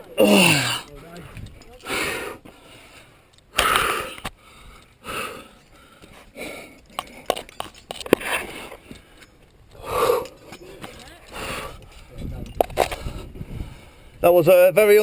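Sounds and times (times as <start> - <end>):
climber breathing hard and grunting: 0.0 - 14.2.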